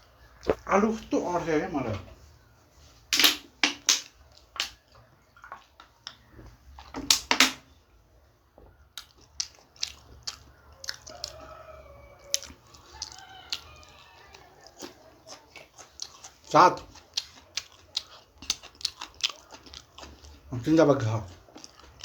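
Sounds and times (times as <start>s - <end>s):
crunchy chewing of food: 0.0s - 1.1s, 2.4s - 7.0s, 8.7s - 22.0s.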